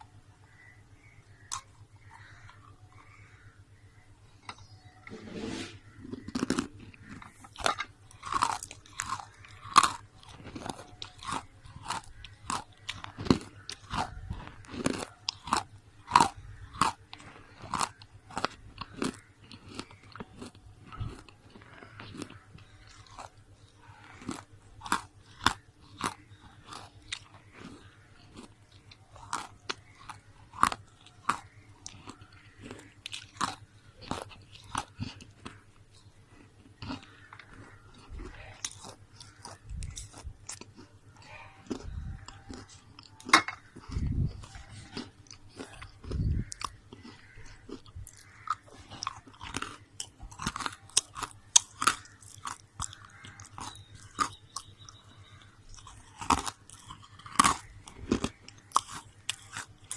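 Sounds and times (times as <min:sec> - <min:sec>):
brittle crunchy chewing: 0:00.0 - 0:59.9.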